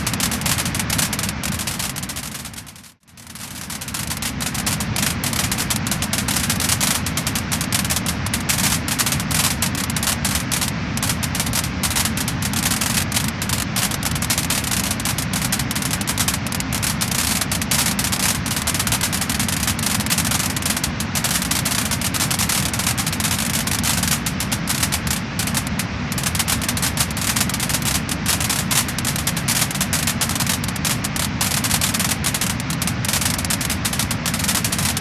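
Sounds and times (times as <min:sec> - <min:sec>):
steady rushing noise: 0:00.0 - 0:35.0
wood fire crackling and popping: 0:00.0 - 0:35.0.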